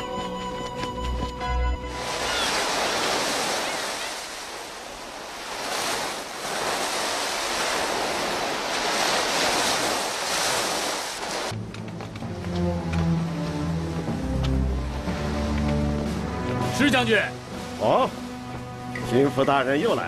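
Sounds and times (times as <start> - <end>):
waves breaking on sand: 1.9 - 11.6, 12.8 - 20.0.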